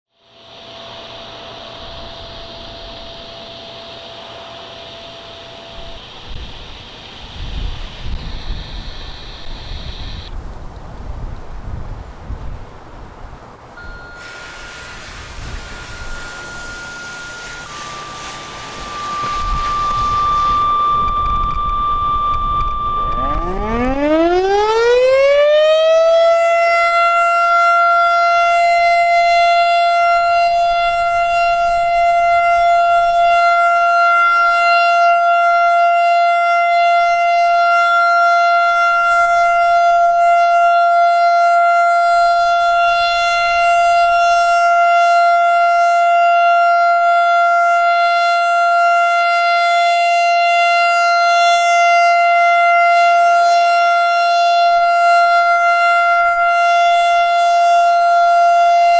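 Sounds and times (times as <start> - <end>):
rotating siren wailing: 0.4 - 10.4, 13.8 - 58.9.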